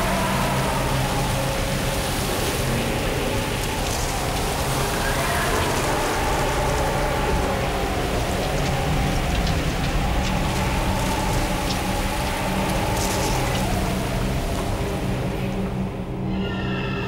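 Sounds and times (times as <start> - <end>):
low humming drone: 0.0 - 17.0
rushing wind: 0.0 - 17.0.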